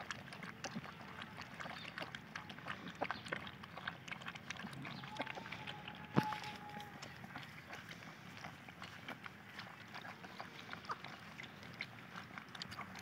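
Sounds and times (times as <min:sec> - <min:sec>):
puppies lapping milk: 0:00.0 - 0:13.0.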